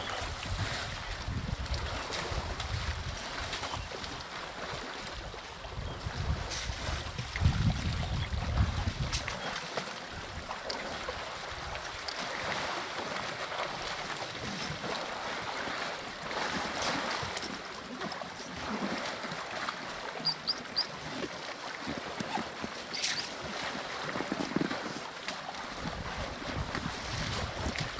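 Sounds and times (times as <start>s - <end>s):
elephants splashing in water: 0.0s - 27.9s.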